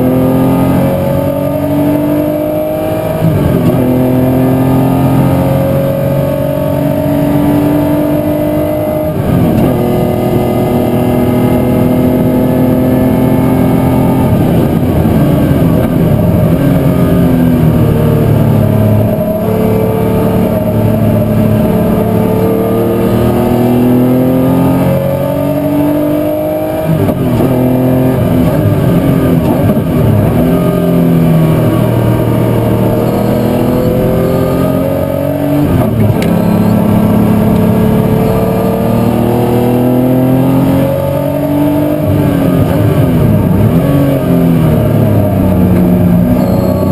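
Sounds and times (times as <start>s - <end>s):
racing car engine shifting gears: 0.0s - 46.9s.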